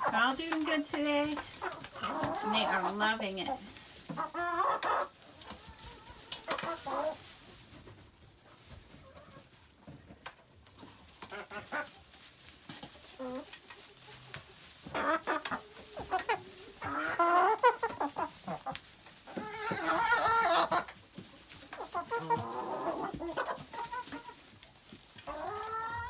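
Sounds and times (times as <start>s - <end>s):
hens clucking and squawking: 0.0s - 26.0s.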